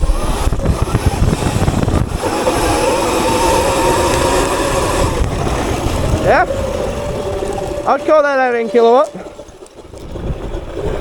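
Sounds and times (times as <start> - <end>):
electric motor whining: 0.0 - 11.0
wind buffeting on microphone: 0.0 - 11.0.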